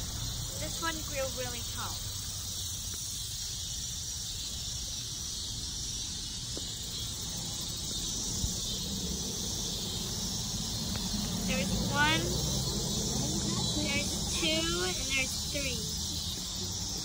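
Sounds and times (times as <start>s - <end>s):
high hiss: 0.0s - 17.0s.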